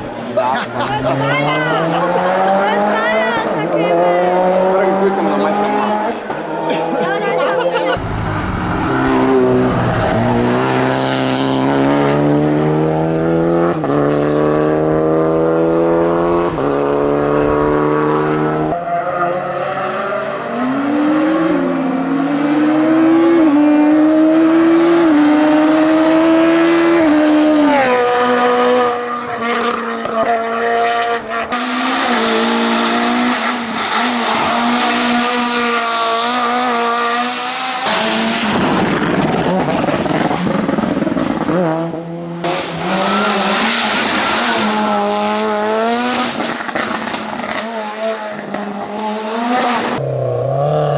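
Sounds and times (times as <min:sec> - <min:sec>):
race car engine accelerating: 0:00.0 - 0:50.9
engine revving: 0:00.8 - 0:50.9.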